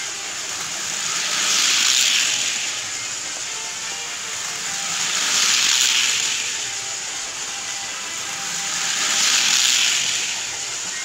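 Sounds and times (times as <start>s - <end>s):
toy electric train whirring: 0.0s - 11.0s.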